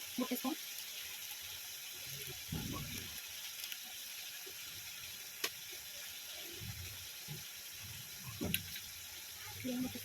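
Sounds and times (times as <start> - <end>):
curry sizzling in a pan: 0.0 - 10.0.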